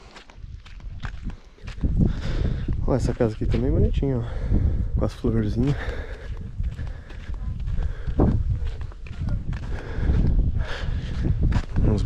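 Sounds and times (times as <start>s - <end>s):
footsteps walking: 0.0s - 4.4s, 5.1s - 12.0s.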